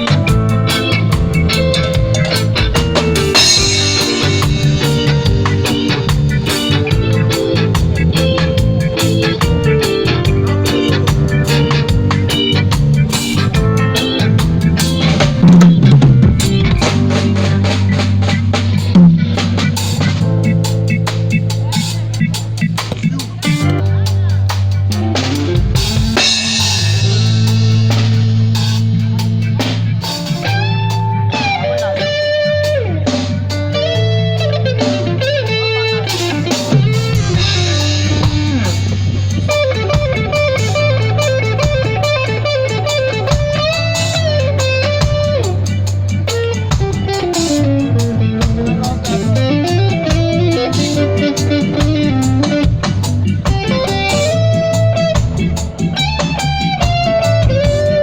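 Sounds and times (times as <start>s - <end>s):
electric guitar lead with bends: 0.0s - 58.0s
steady drum beat: 0.0s - 58.0s
sustained bass notes: 0.0s - 58.0s.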